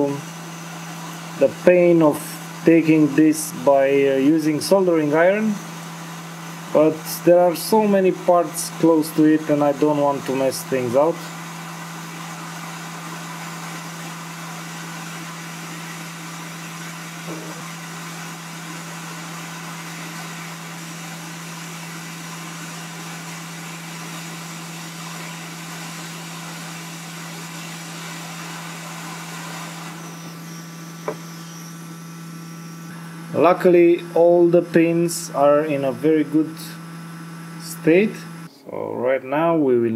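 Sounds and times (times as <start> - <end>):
hot air blower hissing: 0.0 - 38.5
fan hum: 0.0 - 39.9.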